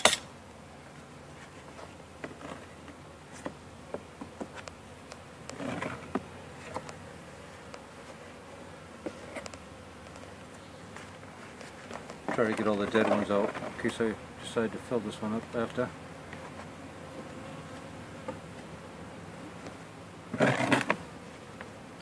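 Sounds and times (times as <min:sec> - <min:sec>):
bees buzzing: 0:00.0 - 0:22.0
clicks and knocks on wooden hive: 0:01.6 - 0:08.3, 0:09.0 - 0:14.2, 0:15.2 - 0:18.8, 0:19.4 - 0:21.8.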